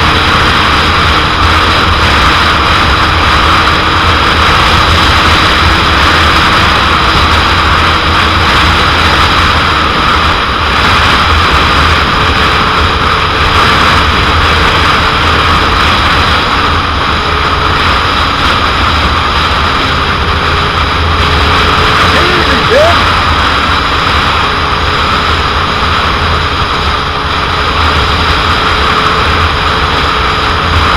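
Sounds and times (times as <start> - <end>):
wind rushing over microphone: 0.0 - 30.9.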